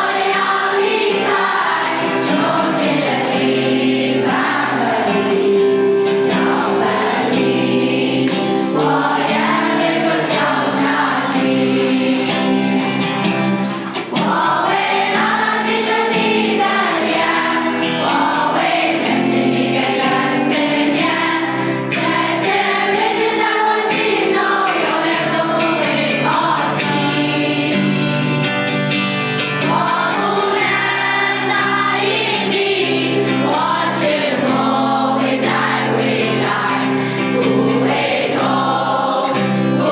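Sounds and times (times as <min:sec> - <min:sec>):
choir singing: 0:00.0 - 0:28.6, 0:29.4 - 0:39.9.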